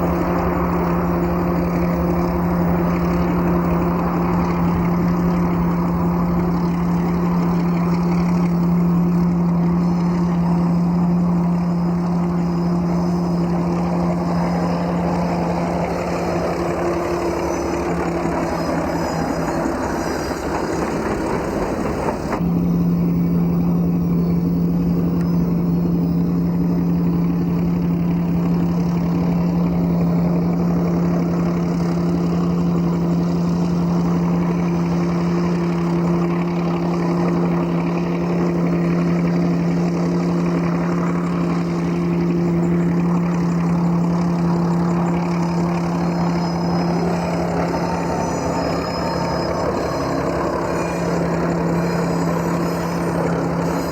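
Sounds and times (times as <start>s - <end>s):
diesel locomotive engine droning: 0.0s - 53.9s
higher tone: 0.0s - 53.9s.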